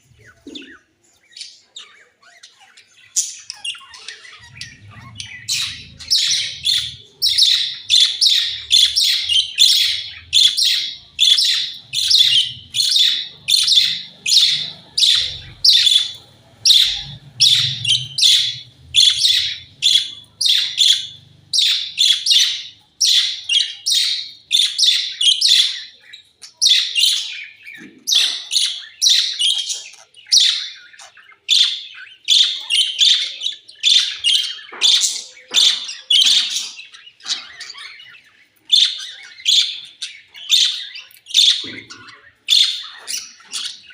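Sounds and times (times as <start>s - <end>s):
budgerigars shrill calls: 0.1s - 43.9s.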